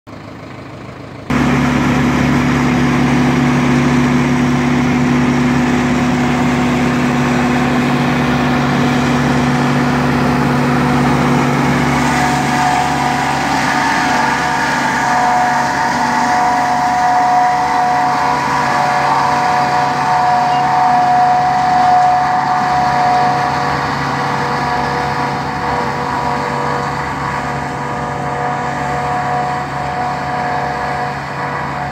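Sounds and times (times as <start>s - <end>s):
tractor engine running under load: 0.1s - 31.9s
high whine of cutter: 1.3s - 31.9s.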